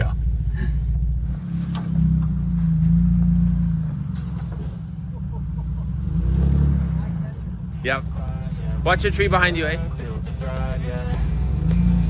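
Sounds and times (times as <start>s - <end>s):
vehicle engine rumbling at low speed: 0.0s - 12.0s.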